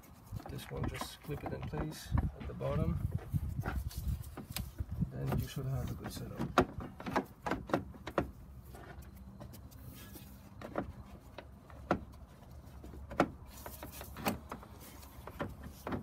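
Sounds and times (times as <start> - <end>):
hard plastic knocks and clicks: 0.5 - 9.0, 10.6 - 12.2, 12.8 - 16.0.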